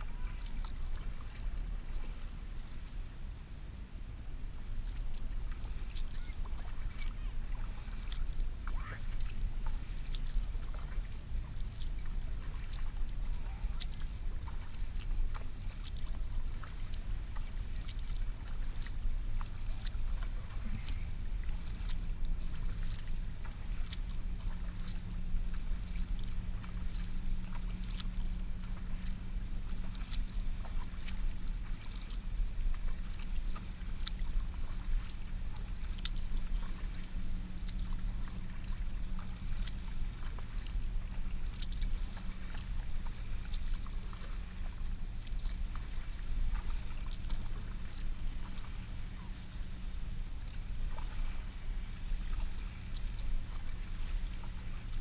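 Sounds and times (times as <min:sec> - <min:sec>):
low rumble: 0:00.0 - 0:55.0
paddle splashes and drips: 0:00.0 - 0:55.0
steady low hum: 0:00.0 - 0:55.0.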